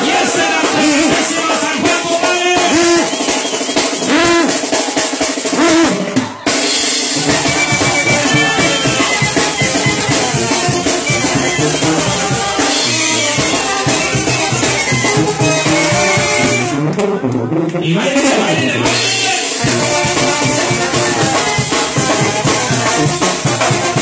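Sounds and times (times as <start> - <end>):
brass band dance music: 0.0 - 24.0.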